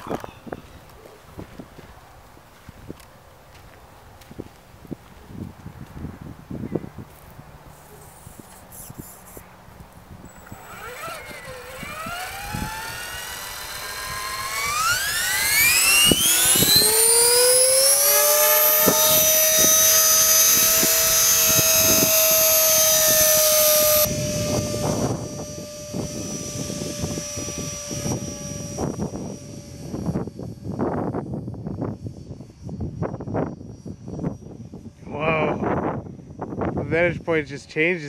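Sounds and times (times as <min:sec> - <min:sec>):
wind buffeting microphone: 0:00.0 - 0:37.9
helicopter motor and rotor whine: 0:04.8 - 0:38.0.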